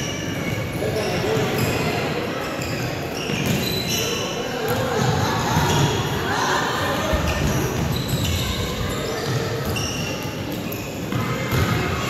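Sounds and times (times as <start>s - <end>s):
sneakers squeaking on hardwood: 0.0s - 6.2s, 7.0s - 12.0s
chatter and shouts echoing: 0.0s - 12.0s.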